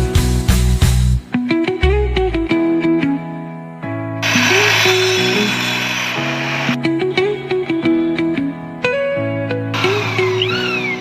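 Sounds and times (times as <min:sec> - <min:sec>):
guitar-led music with beat: 0:00.0 - 0:11.0.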